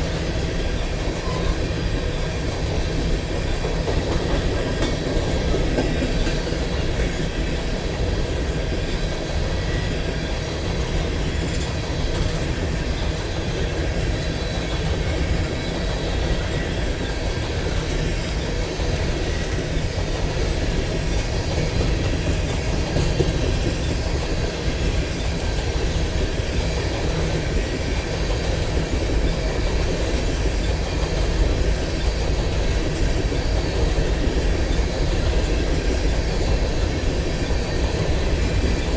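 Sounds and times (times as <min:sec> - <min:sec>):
train rolling past: 0:00.0 - 0:38.9
wheel clatter on rails: 0:00.0 - 0:38.9.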